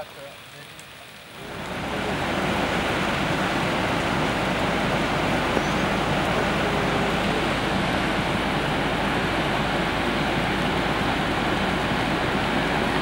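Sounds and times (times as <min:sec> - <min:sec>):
waterfall rushing: 0:01.4 - 0:13.0.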